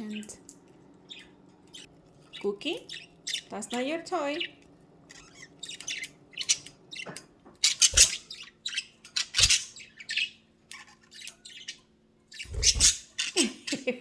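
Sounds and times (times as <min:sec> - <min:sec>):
budgerigar chirping and squawking: 0:01.1 - 0:13.8.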